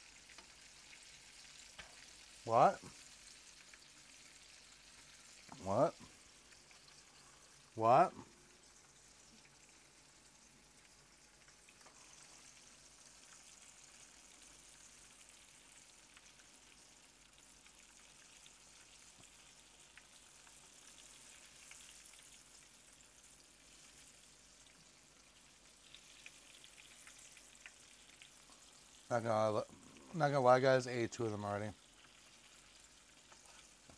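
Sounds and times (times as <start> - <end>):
faint sizzling of frying: 0.0 - 33.9.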